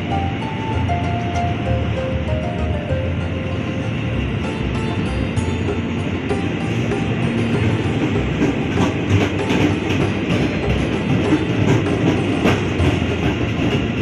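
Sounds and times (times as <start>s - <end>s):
background music: 0.0s - 14.0s
train wheels rumbling on rail: 0.0s - 14.0s.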